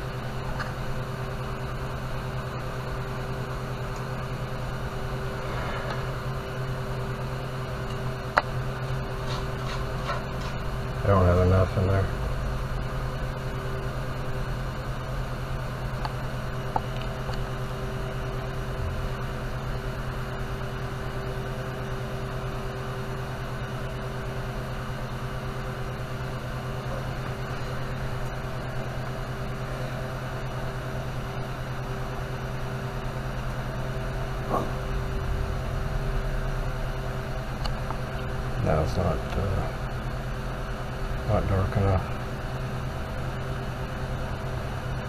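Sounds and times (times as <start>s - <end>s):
workshop machine humming: 0.0s - 45.0s.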